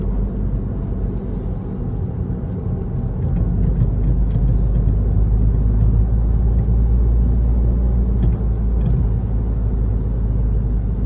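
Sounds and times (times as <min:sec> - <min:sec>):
car road and running noise: 0:00.0 - 0:11.0.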